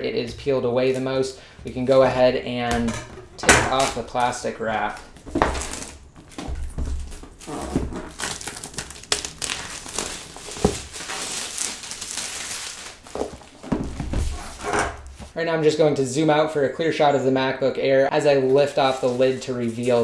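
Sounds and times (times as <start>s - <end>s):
plastic shrink wrap crinkling: 0.2s - 15.4s, 18.4s - 20.0s.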